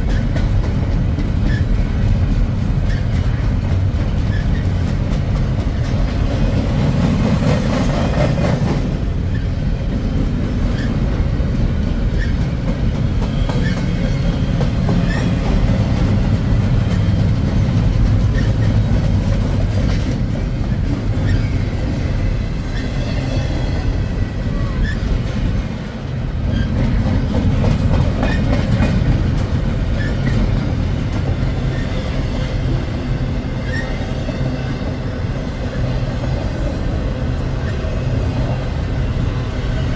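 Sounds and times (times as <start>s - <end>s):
freight train rumbling past: 0.0s - 39.9s
train wheels clicking: 0.0s - 39.9s.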